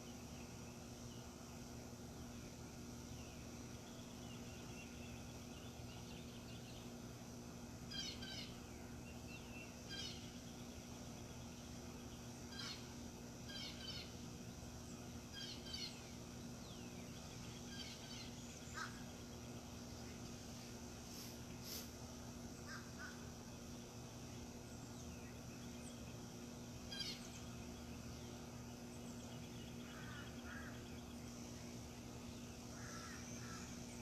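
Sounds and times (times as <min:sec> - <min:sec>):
birds chirping: 0:00.0 - 0:34.0
faint low hum: 0:00.0 - 0:34.0.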